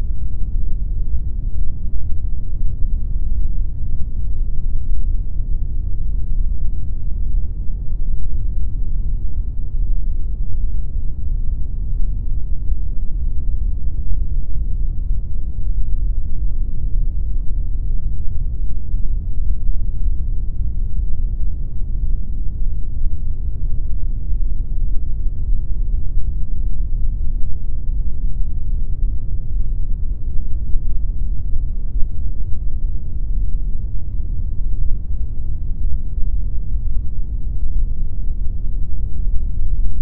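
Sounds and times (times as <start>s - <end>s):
steady pink noise: 0.0s - 40.0s.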